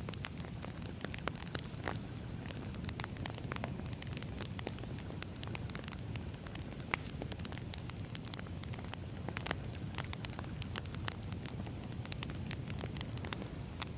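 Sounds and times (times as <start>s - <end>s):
low steady rumble: 0.0s - 13.9s
wood fire crackling: 0.0s - 13.9s.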